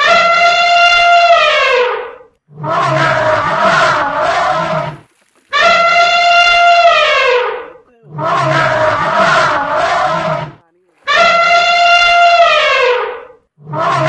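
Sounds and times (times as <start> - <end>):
elephant trumpeting: 0.0 - 14.0.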